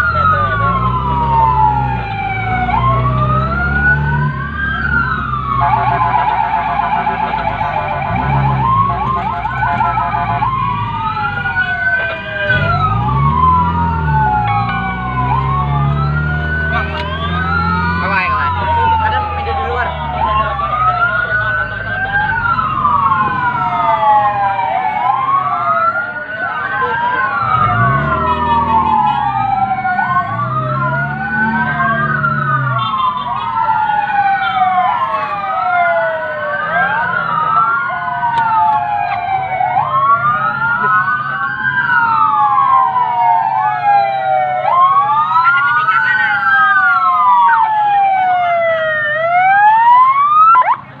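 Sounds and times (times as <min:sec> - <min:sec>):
fire engine sirens wailing: 0:00.0 - 0:51.0.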